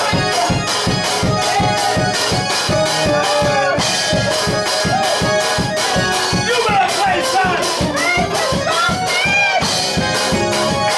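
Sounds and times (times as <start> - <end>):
electronic keyboard lead line: 0.0 - 10.9
fast steady beat: 0.0 - 10.9.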